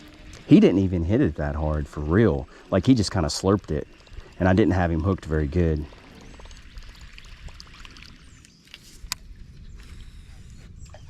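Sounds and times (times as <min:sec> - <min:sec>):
low wind rumble: 0:00.0 - 0:11.0
water lapping around kayak: 0:00.0 - 0:11.0.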